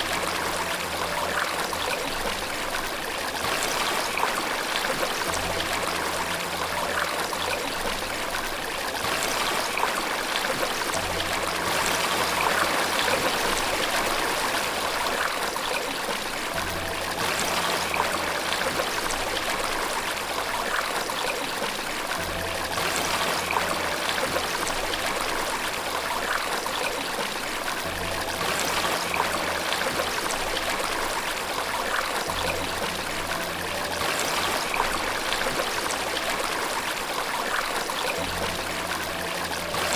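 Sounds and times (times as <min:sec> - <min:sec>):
falling water rushing: 0:00.0 - 0:39.9
soft low sustained notes: 0:00.0 - 0:39.9.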